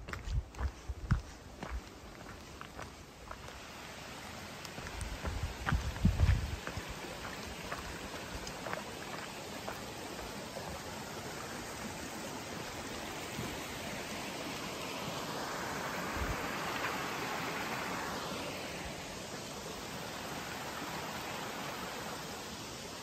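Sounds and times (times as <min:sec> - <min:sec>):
small stream running: 0:00.0 - 0:23.0.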